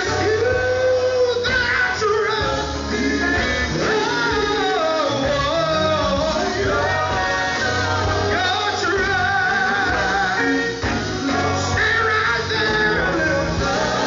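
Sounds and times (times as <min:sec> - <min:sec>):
gospel band playing: 0:00.0 - 0:14.0
male vocal group singing: 0:00.0 - 0:14.0.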